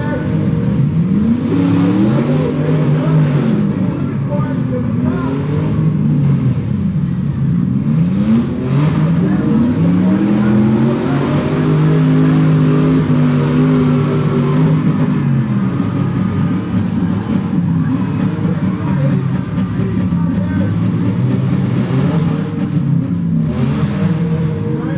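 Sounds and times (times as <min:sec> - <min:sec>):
car engines revving: 0:00.0 - 0:24.9
steady engine rumble: 0:00.0 - 0:24.9.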